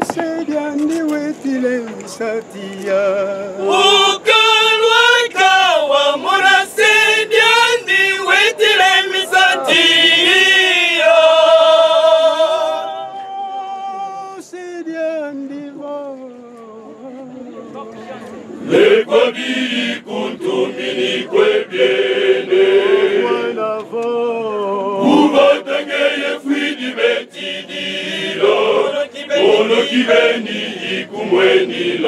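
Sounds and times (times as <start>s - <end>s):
men's choir singing: 0.0s - 15.5s, 18.6s - 32.0s.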